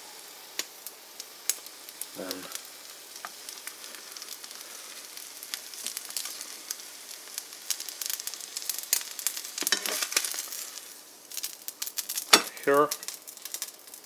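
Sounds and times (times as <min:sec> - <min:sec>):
bread and eggs sizzling in pan: 0:00.0 - 0:14.0
crackles and pops: 0:00.1 - 0:14.0.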